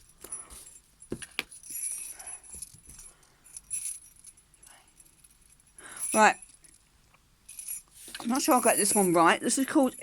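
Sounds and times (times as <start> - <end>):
jingle bells shaken: 0.0 - 6.9, 7.5 - 10.0.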